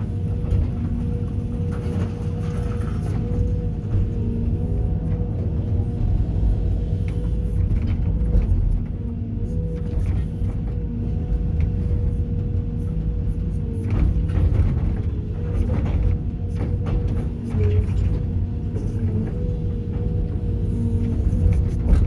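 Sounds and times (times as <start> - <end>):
excavator diesel rumble: 0.0 - 22.0.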